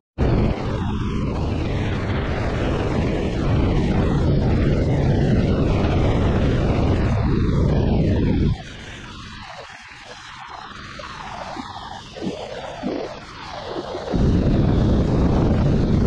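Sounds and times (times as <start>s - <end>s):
water spraying off hull: 0.3s - 16.0s.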